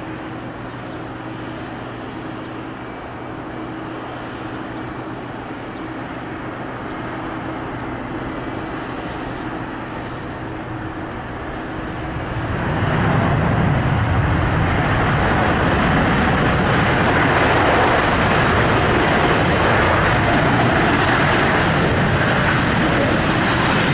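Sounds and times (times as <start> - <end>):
jet engines rushing: 0.0 - 23.9.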